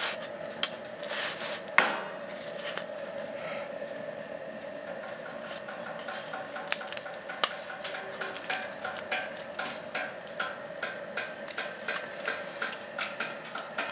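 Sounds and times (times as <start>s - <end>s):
blower hum: 0.0s - 13.9s.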